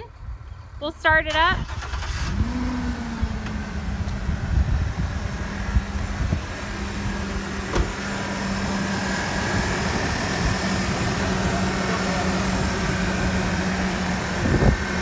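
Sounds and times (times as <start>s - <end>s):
car engine idling: 1.6s - 15.0s.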